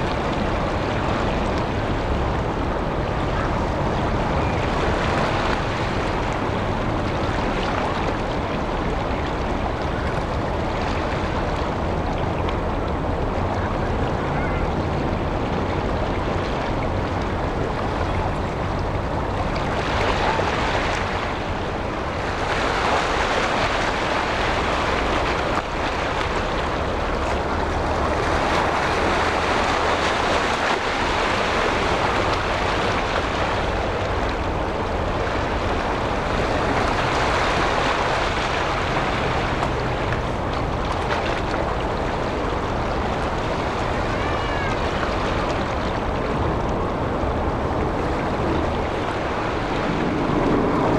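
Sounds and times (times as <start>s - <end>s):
wind on microphone: 0.0s - 50.9s.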